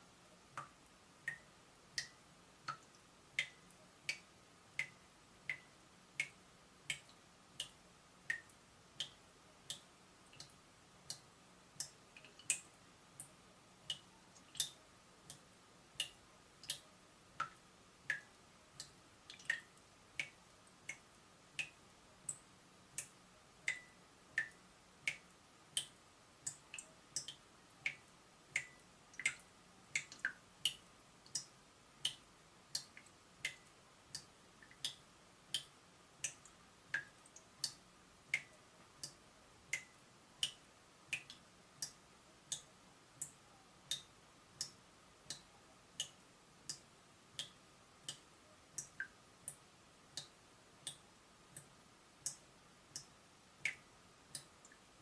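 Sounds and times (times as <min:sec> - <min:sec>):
water dripping from tap: 0:00.6 - 0:13.3, 0:13.9 - 0:15.4, 0:17.4 - 0:22.4, 0:23.7 - 0:46.8, 0:47.4 - 0:49.6.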